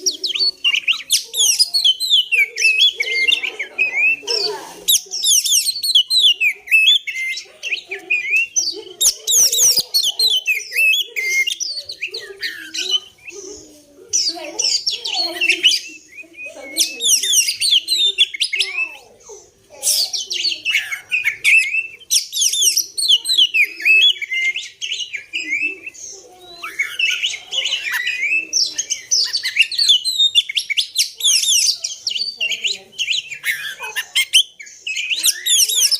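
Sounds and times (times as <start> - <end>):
bird singing chirps and whistles: 0.0 - 4.2, 4.9 - 13.4, 14.2 - 35.9.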